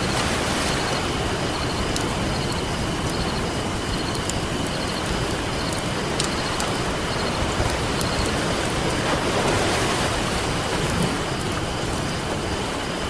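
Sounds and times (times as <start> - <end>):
ocean surf rushing: 0.0 - 13.0
campfire crackling and popping: 0.2 - 13.0.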